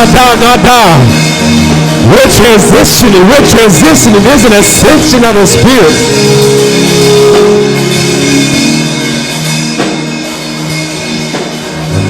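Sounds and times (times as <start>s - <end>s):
held keyboard chords: 0.0s - 12.0s.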